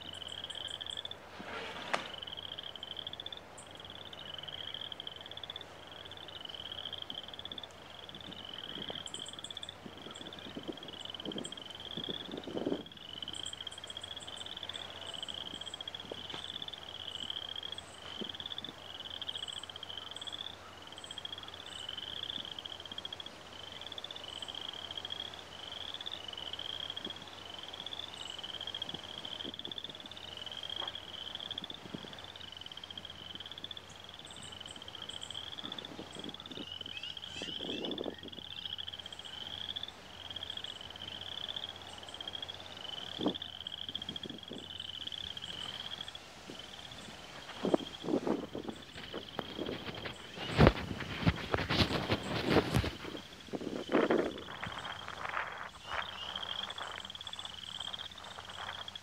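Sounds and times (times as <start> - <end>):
frogs calling: 0.0 - 1.3, 2.1 - 59.0.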